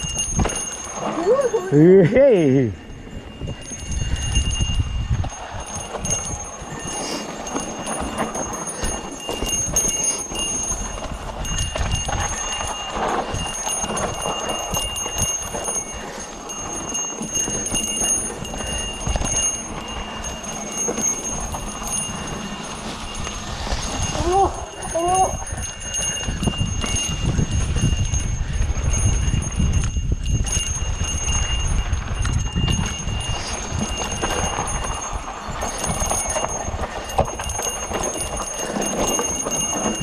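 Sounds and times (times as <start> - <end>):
bike rattling on dirt trail: 0.0 - 40.0
steady high ringing: 0.0 - 40.0.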